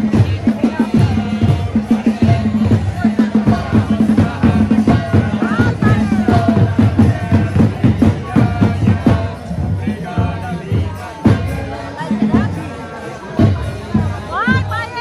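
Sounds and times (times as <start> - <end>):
drums beating steady rhythm: 0.0 - 15.0
voices and crowd noise: 0.0 - 15.0.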